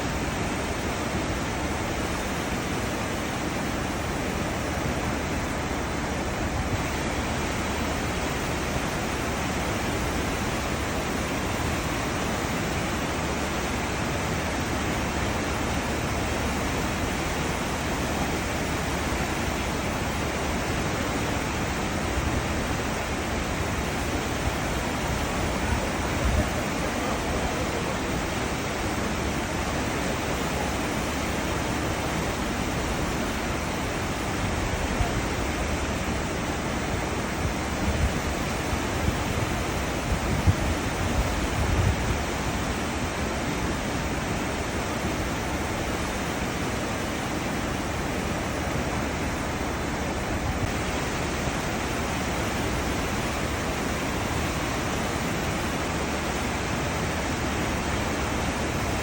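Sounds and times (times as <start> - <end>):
ship wake water rushing: 0.0 - 59.0.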